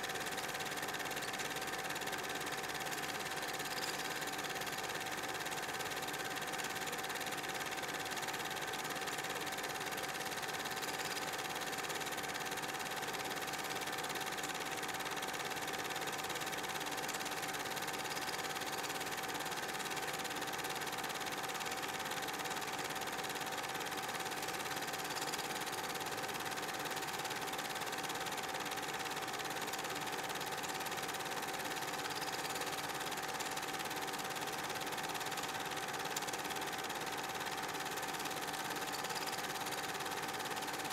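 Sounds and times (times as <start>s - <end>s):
film projector whirring and clattering: 0.0s - 40.9s.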